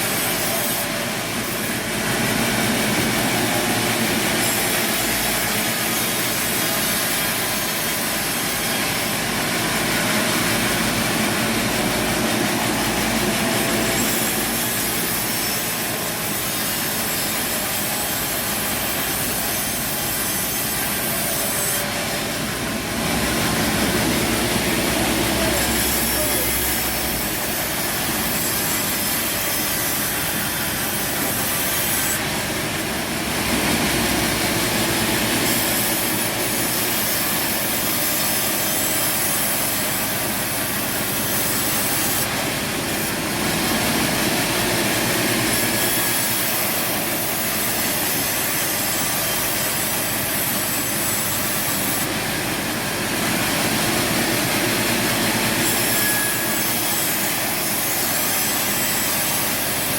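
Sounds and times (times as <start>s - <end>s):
sawmill saw cutting wood: 0.0s - 59.9s.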